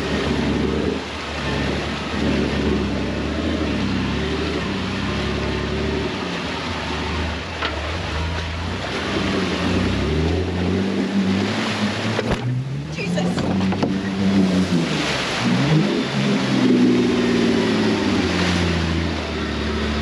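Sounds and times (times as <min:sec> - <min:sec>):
vehicle engine revving: 0:00.0 - 0:20.0
water rushing and sloshing: 0:00.0 - 0:20.0.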